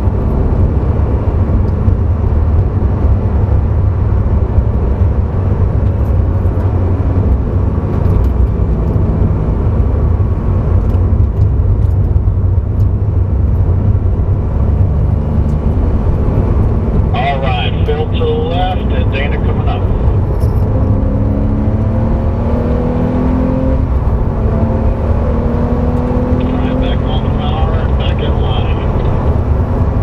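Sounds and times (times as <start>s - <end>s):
sports car engine drone in cabin: 0.0s - 30.0s.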